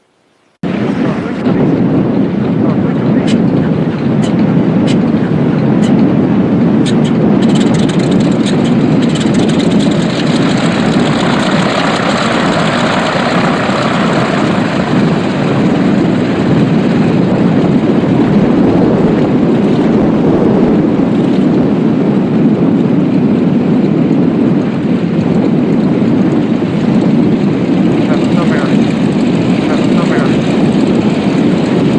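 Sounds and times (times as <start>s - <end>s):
propeller plane engine running: 0.0s - 31.9s.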